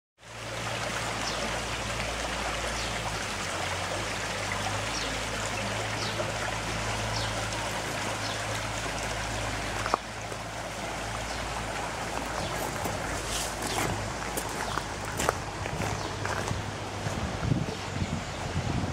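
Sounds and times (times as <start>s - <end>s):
brook trickling over stones: 0.2s - 18.9s.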